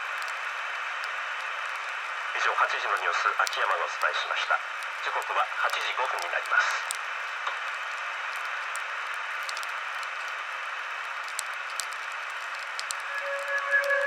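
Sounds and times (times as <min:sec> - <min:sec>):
campfire crackling: 0:00.0 - 0:14.0
radio steady tones: 0:00.0 - 0:14.0.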